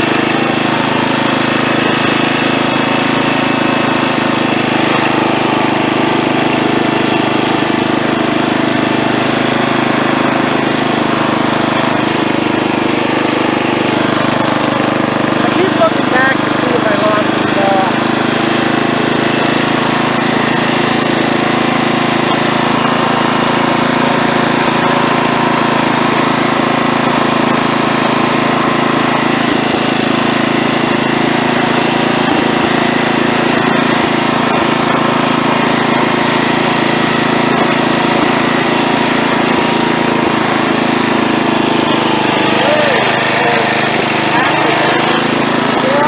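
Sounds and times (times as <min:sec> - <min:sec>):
lawn tractor engine running: 0:00.0 - 0:46.0.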